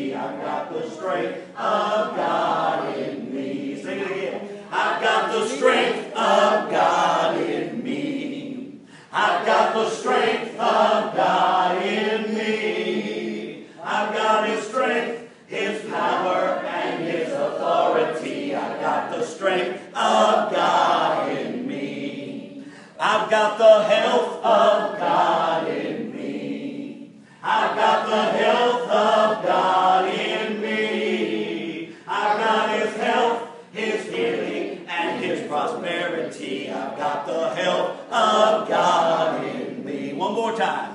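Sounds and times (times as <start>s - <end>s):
congregation singing unaccompanied: 0.0s - 40.9s.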